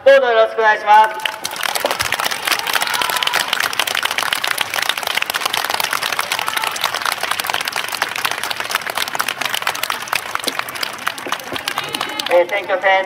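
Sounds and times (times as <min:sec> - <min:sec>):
crowd applauding: 0:01.0 - 0:13.0.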